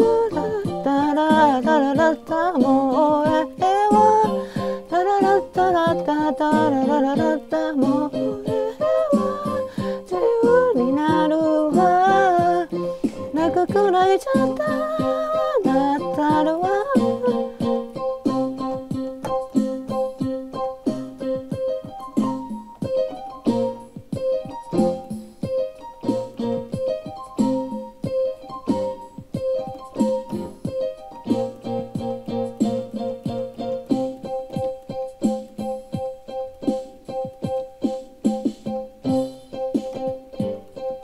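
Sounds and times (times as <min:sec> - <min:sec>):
digital keyboard playing: 0:00.0 - 0:41.0.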